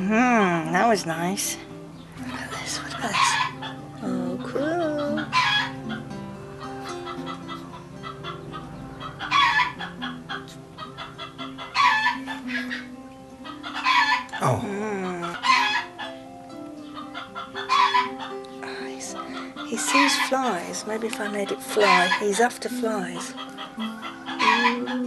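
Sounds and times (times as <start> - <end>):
quiet background music: 0.0 - 25.0
chickens calling: 2.0 - 14.4, 15.0 - 25.0.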